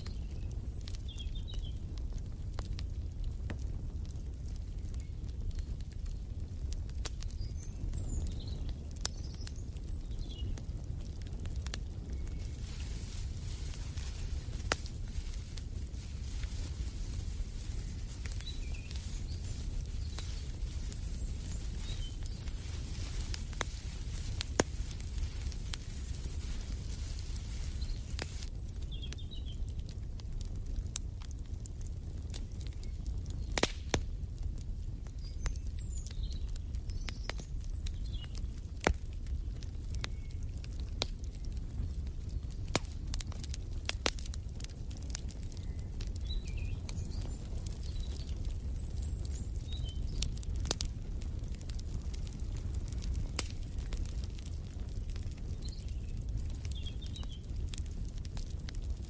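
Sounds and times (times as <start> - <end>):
low rumble of fire: 0.0 - 59.0
sharp pops of burning wood: 0.0 - 59.0
wood fire crackling: 0.0 - 59.0.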